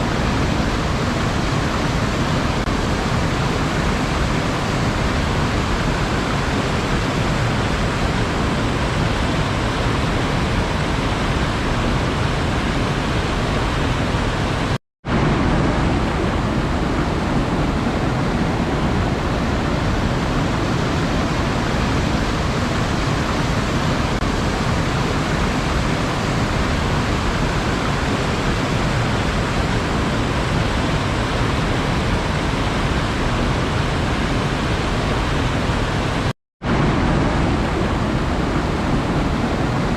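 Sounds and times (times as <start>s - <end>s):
sea surf rushing: 0.0s - 39.9s.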